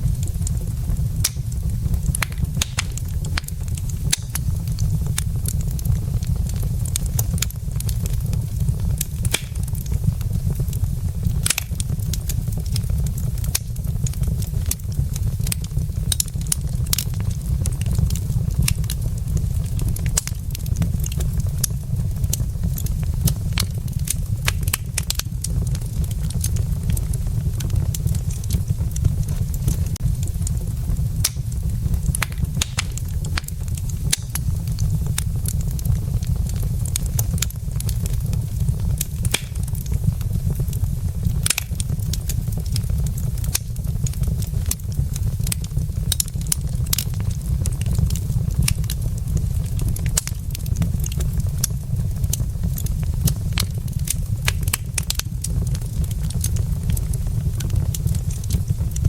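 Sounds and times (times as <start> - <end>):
low rumble: 0.0 - 44.7, 55.4 - 59.0
wood fire crackling and popping: 0.0 - 59.0.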